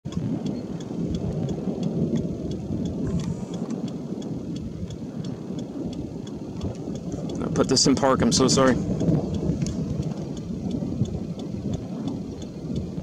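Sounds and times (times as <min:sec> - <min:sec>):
rain drumming on vehicle roof: 0:00.0 - 0:13.0
rapid light ticking: 0:00.0 - 0:13.0.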